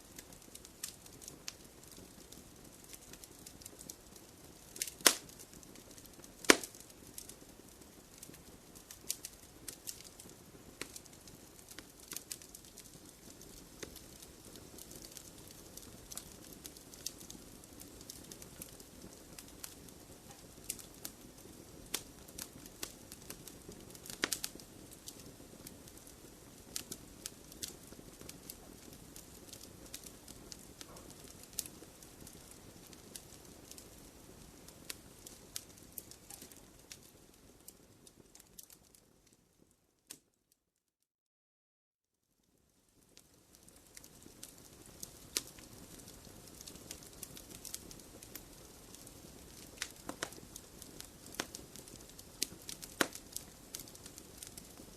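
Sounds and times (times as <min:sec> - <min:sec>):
wood fire crackling: 0:00.0 - 0:40.3, 0:42.4 - 0:54.9.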